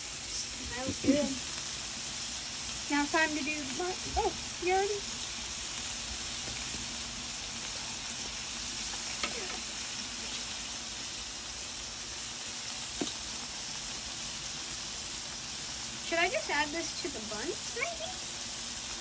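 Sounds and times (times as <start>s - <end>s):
burger patties sizzling on griddle: 0.0s - 19.0s.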